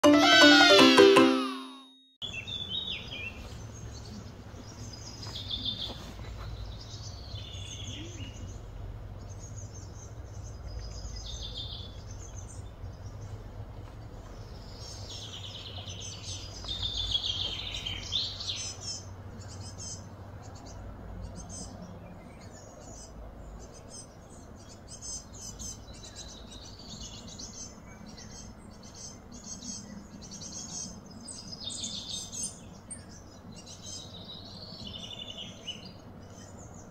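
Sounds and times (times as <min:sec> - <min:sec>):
small birds chirping: 0:02.2 - 0:36.9.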